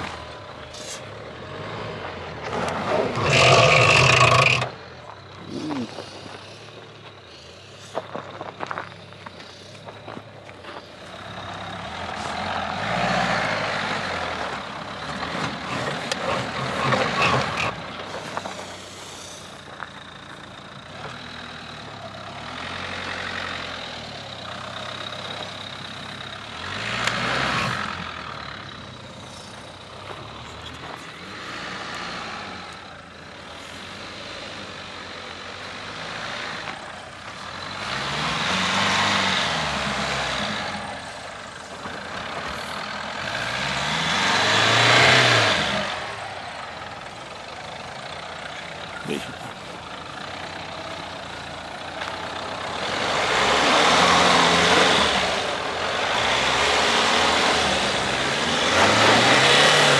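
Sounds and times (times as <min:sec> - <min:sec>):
engines running under load: 0:00.0 - 0:59.9.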